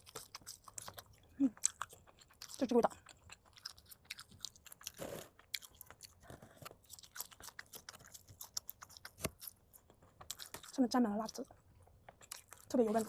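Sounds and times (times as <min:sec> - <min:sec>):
crunchy snack chewing: 0:00.0 - 0:13.0.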